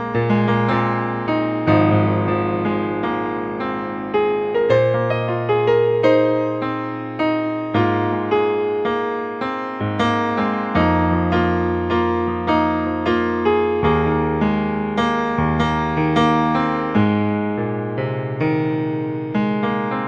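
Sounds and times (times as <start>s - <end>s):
slow melancholic piano music: 0.0s - 20.0s.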